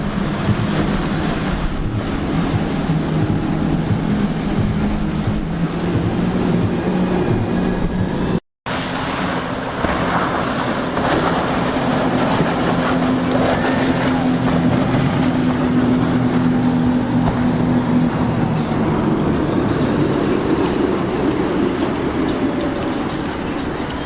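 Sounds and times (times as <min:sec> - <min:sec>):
boat engines running: 0:00.0 - 0:24.0
water noise: 0:00.0 - 0:24.0
wind: 0:00.0 - 0:24.0.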